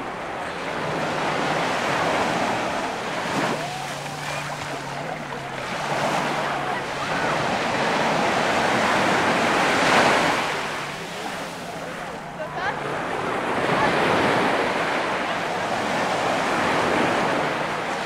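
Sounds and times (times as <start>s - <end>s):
surf breaking on sand beach: 0.0s - 18.0s.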